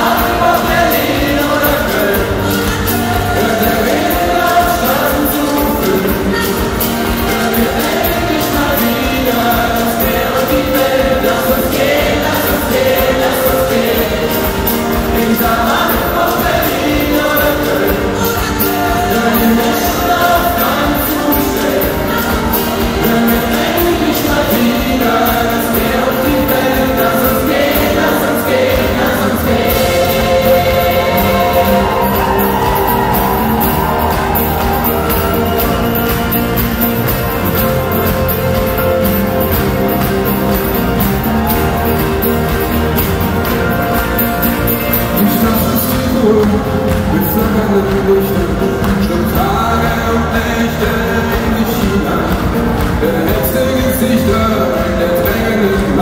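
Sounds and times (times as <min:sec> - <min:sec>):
choir singing: 0:00.0 - 0:56.0
live pop-rock band playing: 0:00.0 - 0:56.0.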